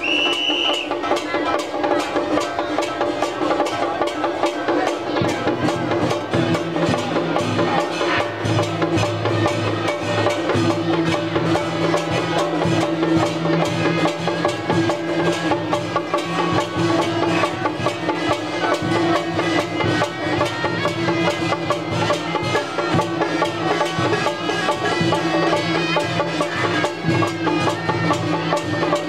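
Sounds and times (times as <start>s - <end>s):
drums beating rapidly: 0.0s - 29.0s.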